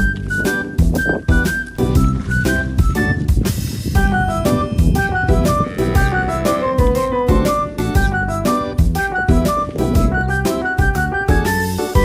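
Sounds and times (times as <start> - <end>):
drum kit beat: 0.0 - 12.0
upbeat instrumental music: 0.0 - 12.0.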